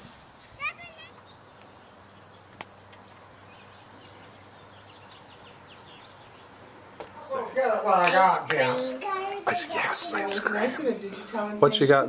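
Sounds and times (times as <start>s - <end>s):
faint birds chirping: 0.1s - 12.0s.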